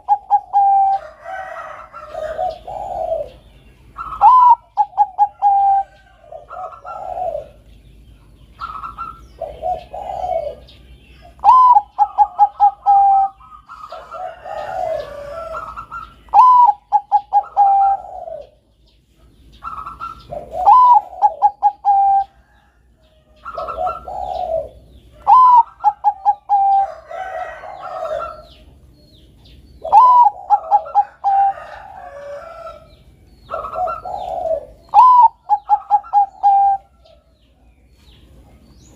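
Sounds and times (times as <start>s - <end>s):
softer dove coos: 0.0s - 3.4s, 4.0s - 7.7s, 8.6s - 18.6s, 19.6s - 28.6s, 29.8s - 37.2s
dove cooing song: 0.0s - 38.9s.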